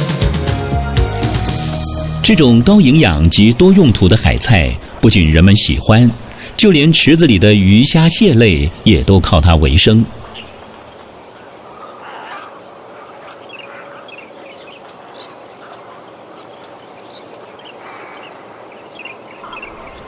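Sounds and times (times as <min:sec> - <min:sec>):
background hiss: 0:00.0 - 0:20.0
birds chirping: 0:00.0 - 0:20.0.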